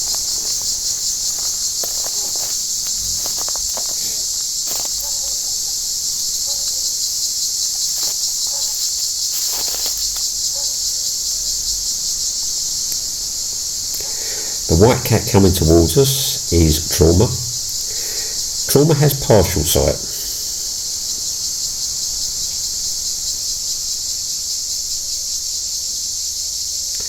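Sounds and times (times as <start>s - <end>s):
cicadas buzzing chorus: 0.0s - 27.0s.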